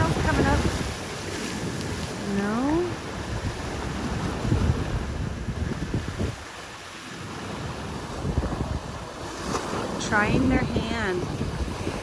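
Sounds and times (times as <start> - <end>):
ocean surf rushing: 0.0 - 12.0
wind buffeting microphone: 0.0 - 12.0.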